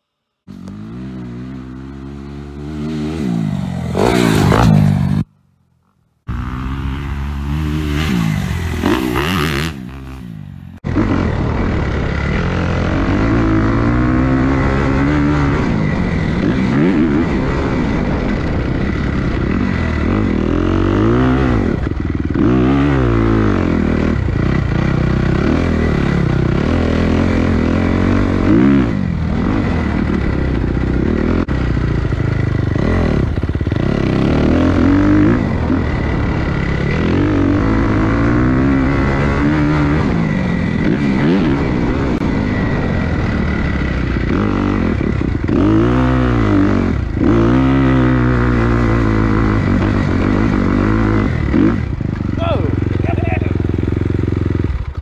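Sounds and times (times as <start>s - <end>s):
dirt bike engine revving: 0.5s - 5.4s, 6.3s - 55.0s.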